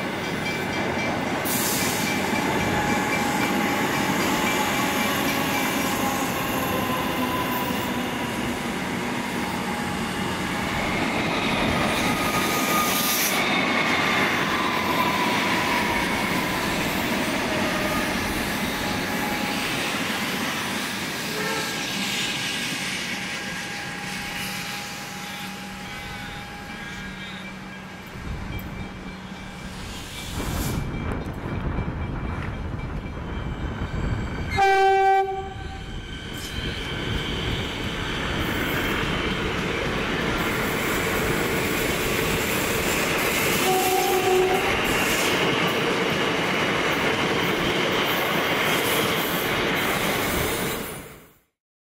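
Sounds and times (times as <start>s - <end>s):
electric train rumbling past: 0.0s - 51.4s.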